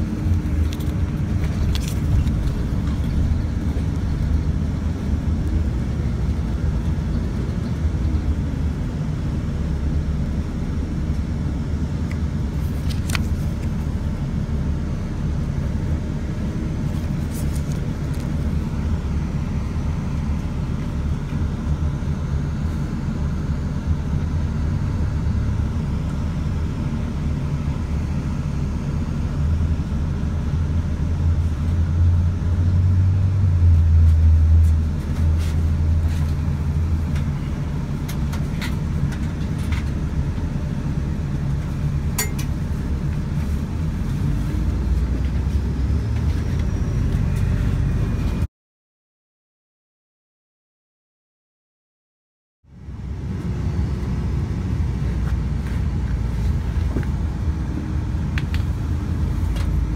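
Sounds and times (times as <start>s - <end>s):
vehicle engine rumbling: 0.0s - 48.5s, 52.6s - 59.9s.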